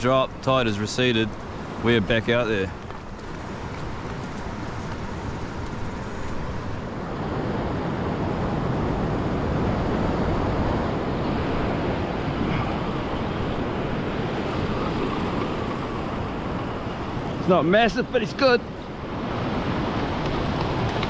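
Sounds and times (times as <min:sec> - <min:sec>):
surf washing over rocks: 0:00.0 - 0:21.0.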